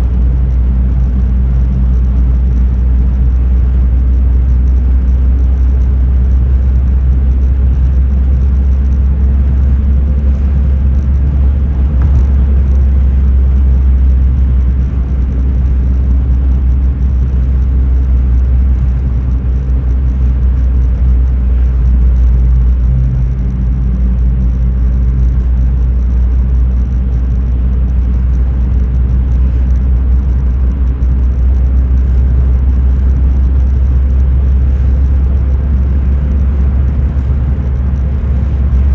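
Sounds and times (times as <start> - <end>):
car cabin low rumble: 0.0 - 38.9.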